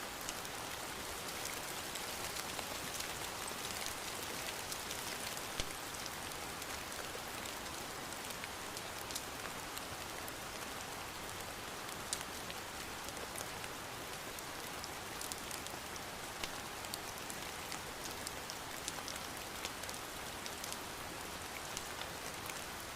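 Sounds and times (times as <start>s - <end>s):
steady rain hiss: 0.0s - 22.9s.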